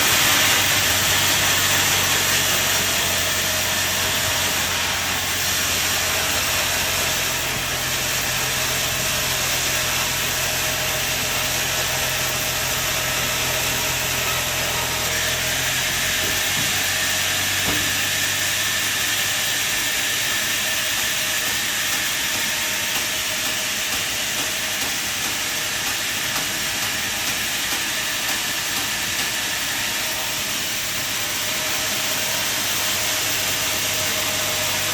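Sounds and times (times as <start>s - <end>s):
saw cutting timber: 0.0s - 34.9s.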